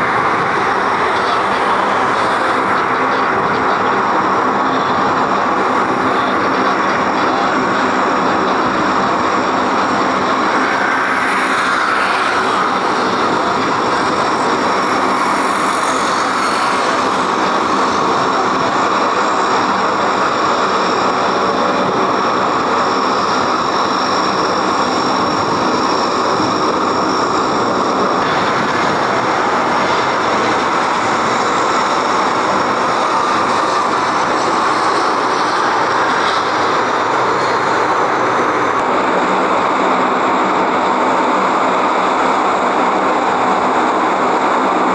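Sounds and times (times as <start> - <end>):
aircraft engines running: 0.0 - 44.9.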